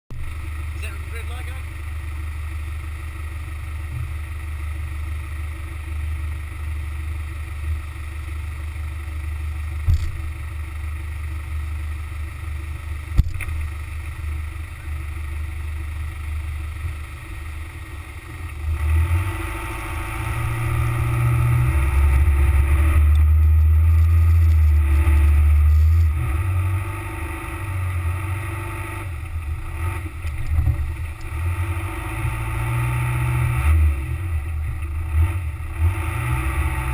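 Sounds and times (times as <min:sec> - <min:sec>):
wind and tyre rumble: 0:00.1 - 0:36.9.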